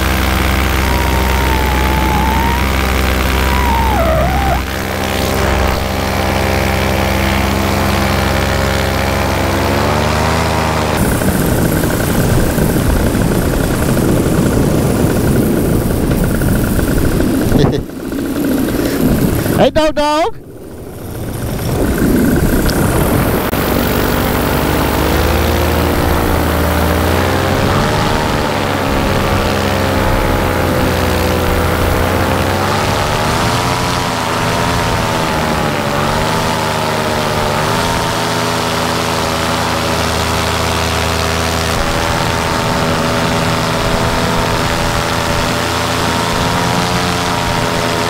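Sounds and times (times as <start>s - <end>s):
paramotor engine and propeller: 0.0s - 48.0s.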